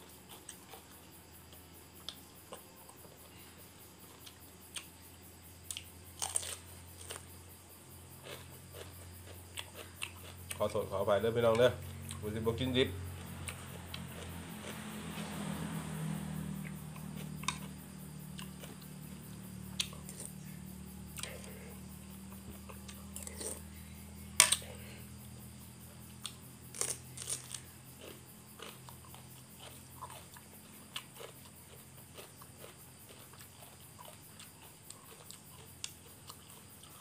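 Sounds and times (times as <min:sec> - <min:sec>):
man chewing: 0:00.1 - 0:03.2, 0:04.0 - 0:04.9, 0:05.7 - 0:07.3, 0:08.2 - 0:10.7, 0:13.2 - 0:15.2, 0:16.6 - 0:25.3, 0:26.0 - 0:37.0.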